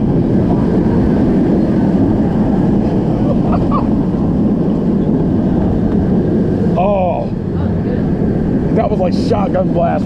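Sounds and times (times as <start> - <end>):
roller coaster rumbling: 0.0 - 10.0
wind rushing over microphone: 0.0 - 10.0.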